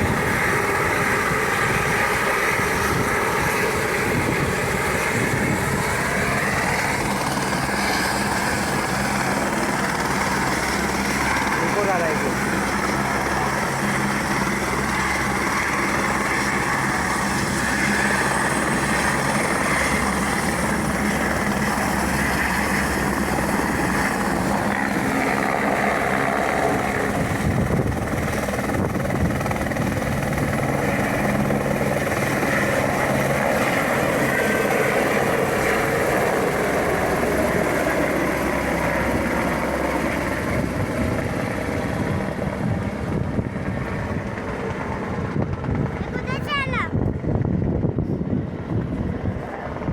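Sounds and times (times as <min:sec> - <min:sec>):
helicopter rotor and engine: 0:00.0 - 0:49.9.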